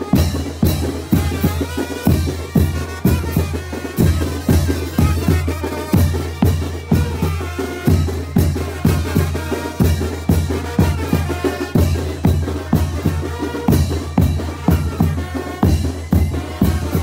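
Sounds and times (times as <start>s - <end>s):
brass band held notes: 0.0s - 17.0s
steady drum beat: 0.0s - 17.0s.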